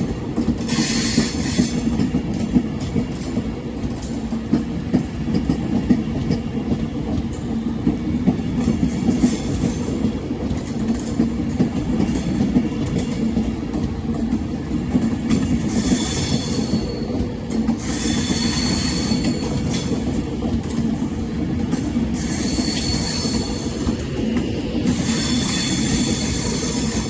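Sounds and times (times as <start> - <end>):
electric train rumble and hum: 0.0 - 27.0.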